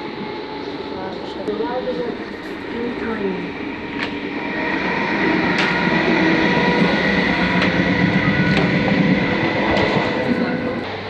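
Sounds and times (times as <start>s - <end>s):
constant whine: 0.0s - 11.0s
train rumble: 0.0s - 11.0s.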